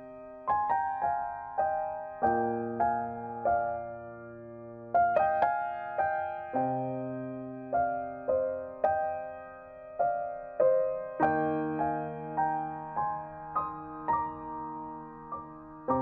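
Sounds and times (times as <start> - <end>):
slow gentle piano melody: 0.0 - 16.0.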